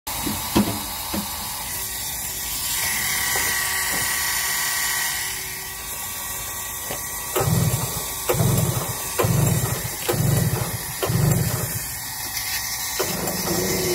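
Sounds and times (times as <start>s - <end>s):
small electric motor whining: 0.1s - 13.9s.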